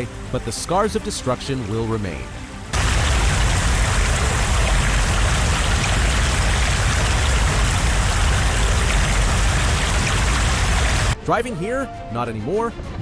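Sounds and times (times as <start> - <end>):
rushing water roar: 0.0 - 11.2.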